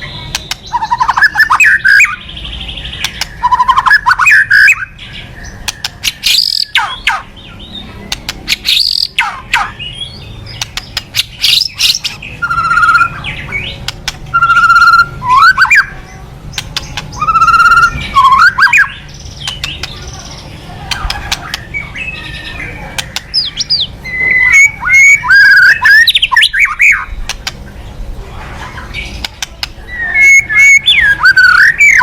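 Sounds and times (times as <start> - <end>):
bird harsh rapid chirps: 0.0 - 32.0
bird warbled notes: 0.0 - 32.0.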